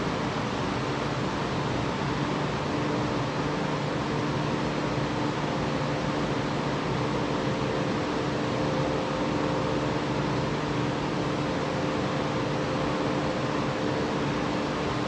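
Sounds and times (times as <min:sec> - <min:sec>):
fan whirring: 0:00.0 - 0:15.0.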